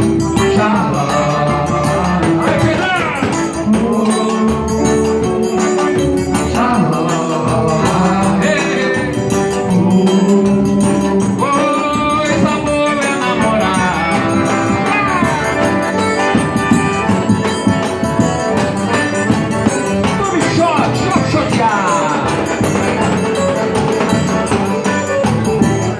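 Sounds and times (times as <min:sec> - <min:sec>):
rhythmic percussion: 0:00.0 - 0:25.9
sliding melody line: 0:00.0 - 0:25.9
wordless vocals: 0:00.0 - 0:25.9.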